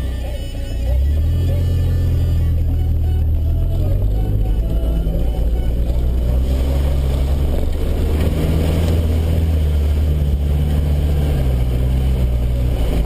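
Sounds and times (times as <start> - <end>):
diesel engine running at low speed: 0.0 - 13.0.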